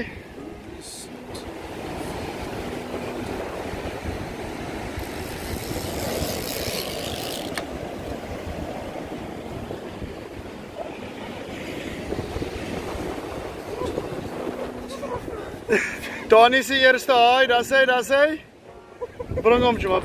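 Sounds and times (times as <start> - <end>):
wind on microphone: 0.0 - 16.0, 19.0 - 20.0.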